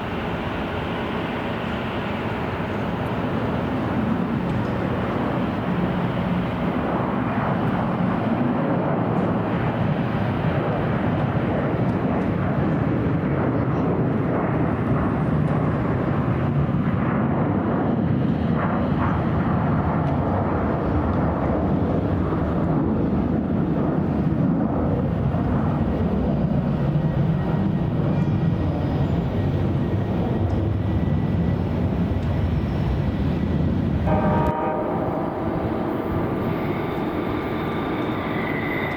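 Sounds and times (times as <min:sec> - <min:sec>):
jet airliner engines rumbling: 0:00.0 - 0:38.9.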